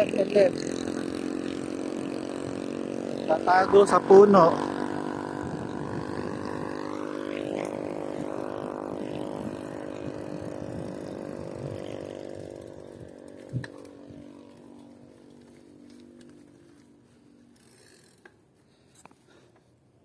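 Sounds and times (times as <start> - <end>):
motorcycle passing by: 0.0 - 18.2.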